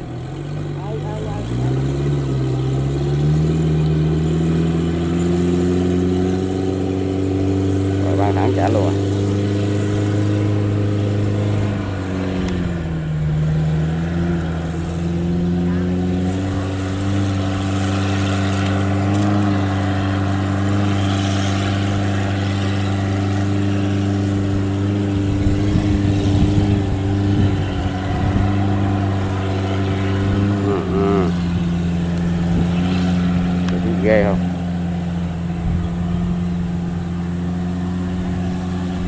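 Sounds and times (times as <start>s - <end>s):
farm machine engine running: 0.0s - 39.0s.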